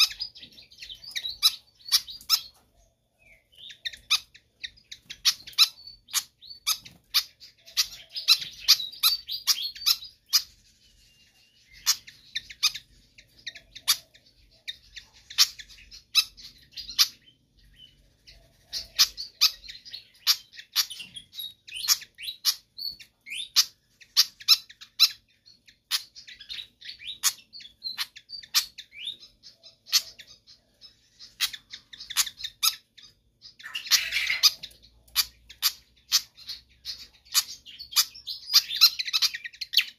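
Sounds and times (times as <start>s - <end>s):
bird chirping and singing: 0.0s - 39.9s.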